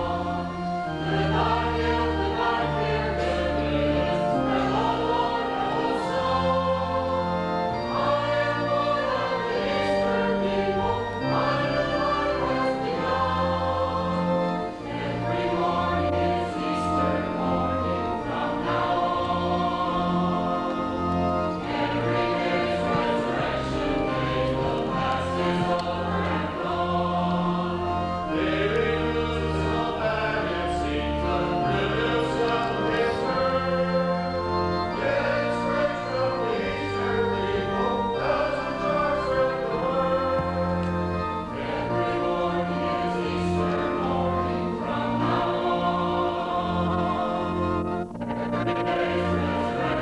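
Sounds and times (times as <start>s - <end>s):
choir singing a hymn: 0.0s - 50.0s.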